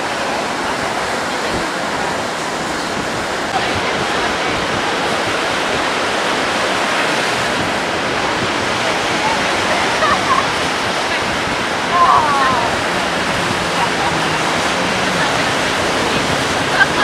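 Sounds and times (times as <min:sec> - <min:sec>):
surf breaking on beach: 0:00.0 - 0:17.0.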